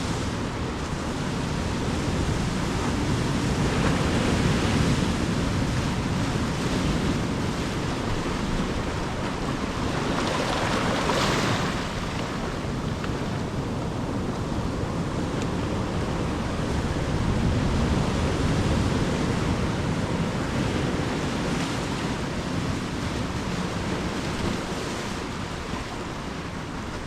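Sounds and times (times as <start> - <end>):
waves breaking on shore: 0.0 - 27.0
wind rumble on microphone: 0.0 - 27.0.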